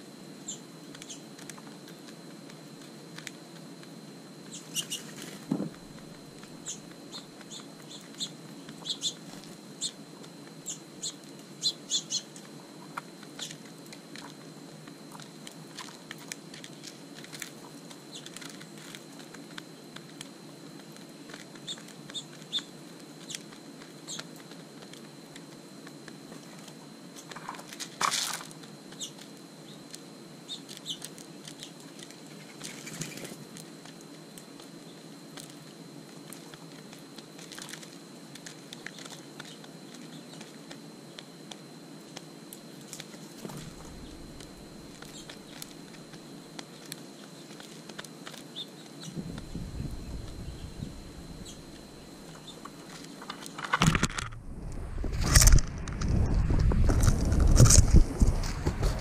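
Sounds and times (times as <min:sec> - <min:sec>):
birds pecking seed clicks: 0:00.4 - 0:54.4
wing flutter: 0:04.4 - 0:29.3, 0:29.9 - 0:34.0, 0:35.3 - 0:59.0.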